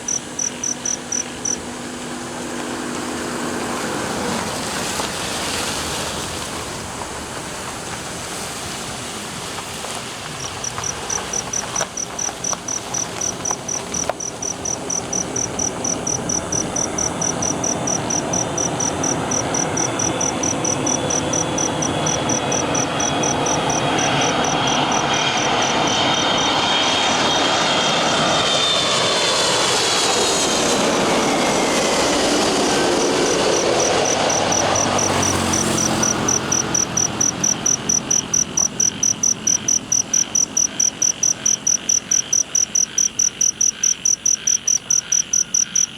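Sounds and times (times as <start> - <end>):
jet engine whine falling in pitch: 0.0 - 6.4, 10.2 - 45.8
insects chirping: 0.0 - 45.9
jet airliner engine noise: 0.0 - 45.9.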